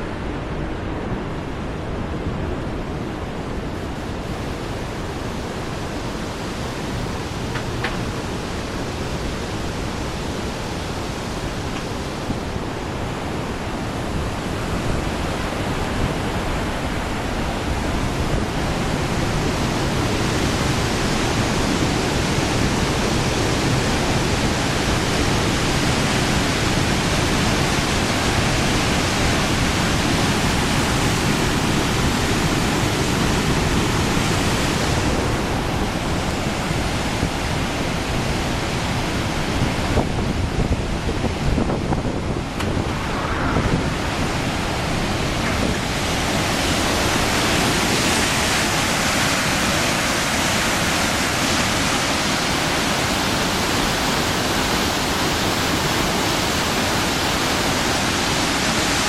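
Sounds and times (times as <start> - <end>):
river water roaring through weir: 0.0 - 59.0.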